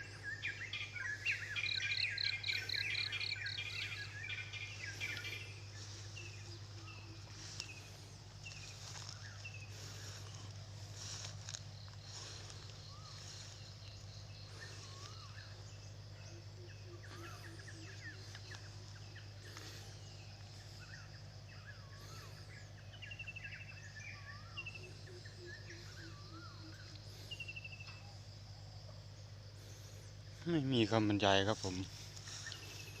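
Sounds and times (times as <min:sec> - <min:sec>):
low hum: 0:00.0 - 0:30.5, 0:31.8 - 0:33.0
birds chirping and trilling: 0:00.0 - 0:33.0
high insect drone: 0:00.0 - 0:33.0.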